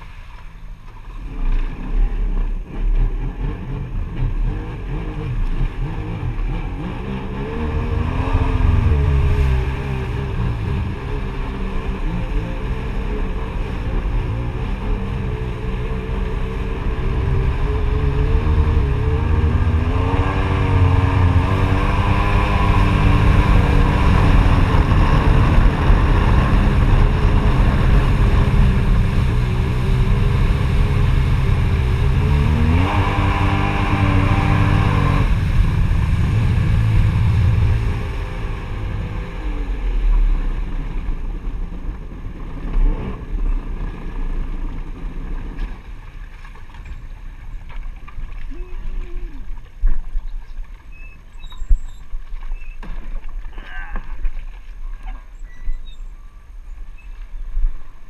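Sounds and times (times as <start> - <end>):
jet ski engine running: 0.0 - 50.8
water rushing: 0.0 - 51.0.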